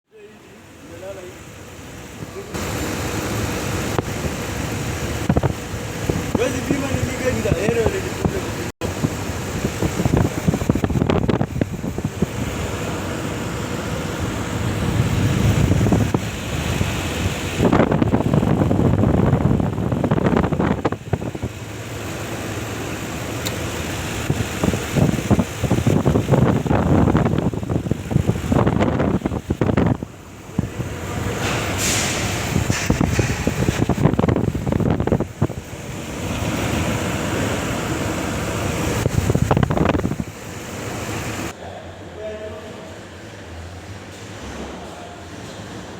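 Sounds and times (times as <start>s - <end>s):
car engine running: 0.2s - 41.5s.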